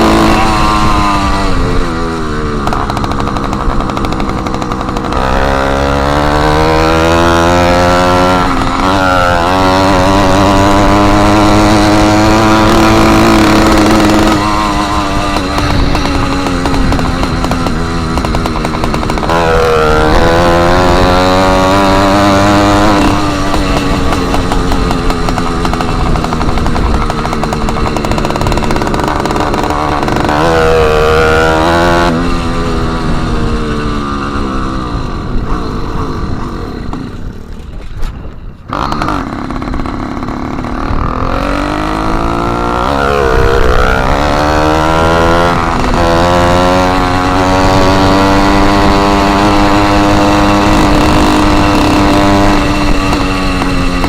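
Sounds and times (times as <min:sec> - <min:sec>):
small engine revving raspy: 0:00.0 - 0:37.9, 0:38.6 - 0:54.0.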